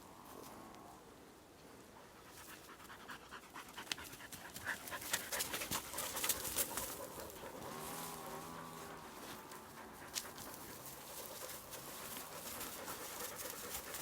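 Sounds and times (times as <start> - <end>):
paws crackling on forest floor: 1.6 - 14.0
dogs panting: 1.8 - 14.0.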